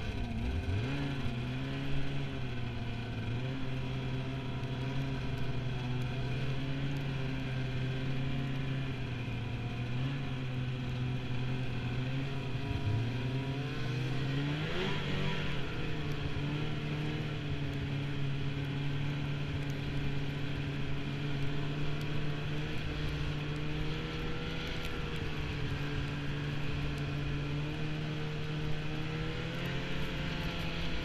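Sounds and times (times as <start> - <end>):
snowmobile engine running: 0.0 - 31.0
wind and track noise: 0.0 - 31.0.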